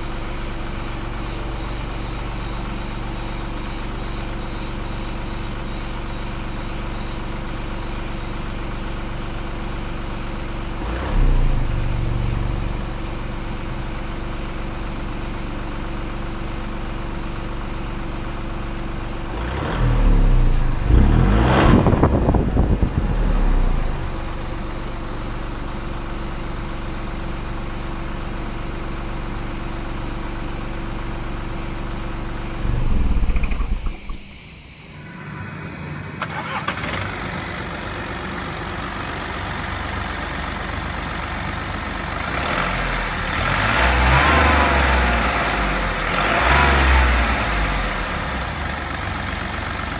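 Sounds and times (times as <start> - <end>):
diesel engine exhaust idling and revving: 0.0 - 49.9.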